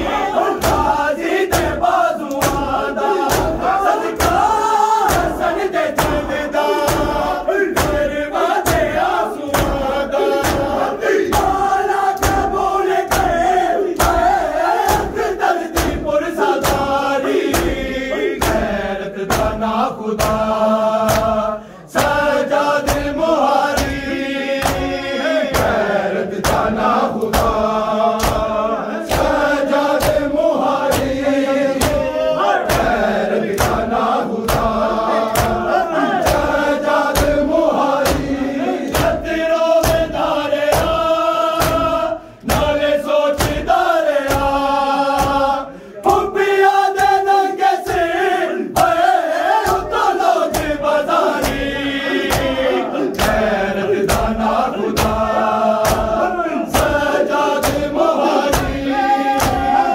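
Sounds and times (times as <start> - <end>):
hands beating chests: 0.0 - 59.9
men chanting in unison: 0.0 - 59.9.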